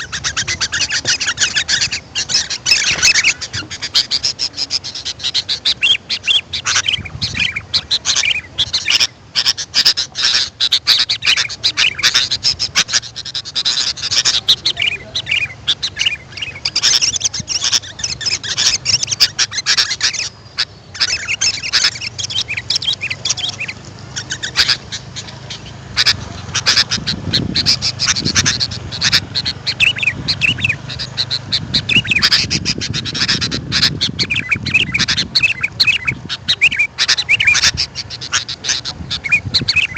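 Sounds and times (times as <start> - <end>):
bulbuls chirping and calling: 0.0 - 39.9.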